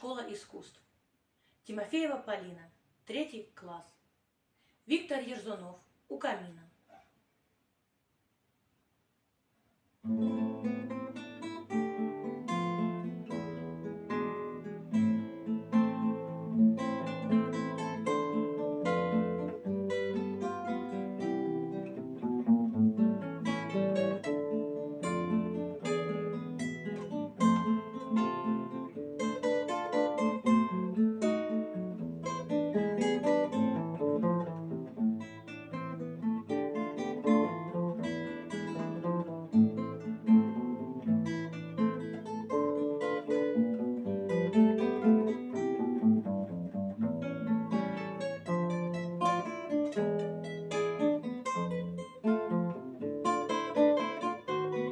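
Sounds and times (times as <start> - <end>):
solo guitar playing: 10.0 - 54.9.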